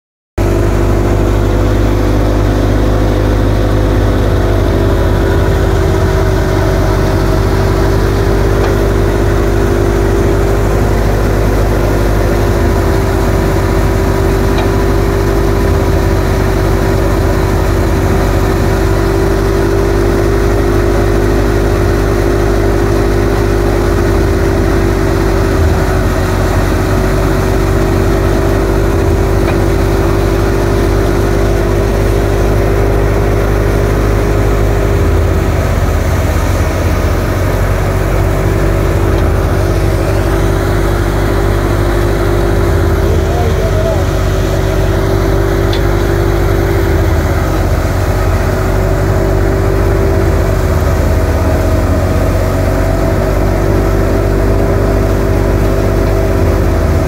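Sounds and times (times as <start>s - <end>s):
thresher machine hum: 0.4s - 57.0s
tractor engine: 0.4s - 57.0s.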